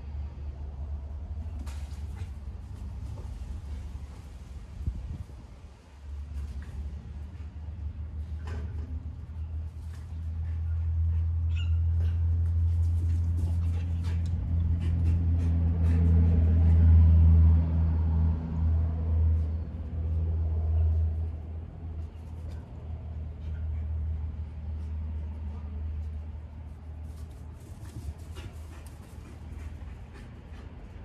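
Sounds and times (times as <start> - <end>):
vehicle engine drone: 0.0 - 31.0.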